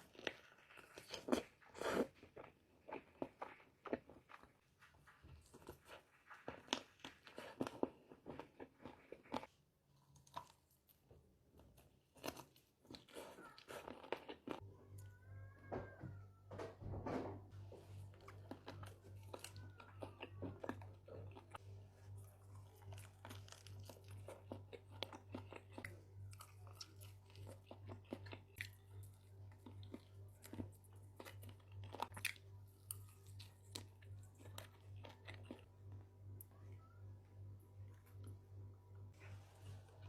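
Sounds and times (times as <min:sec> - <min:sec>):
crunching and chewing fried chicken: 0:00.0 - 0:15.6, 0:17.6 - 0:36.6
faint low hum: 0:00.0 - 0:40.0.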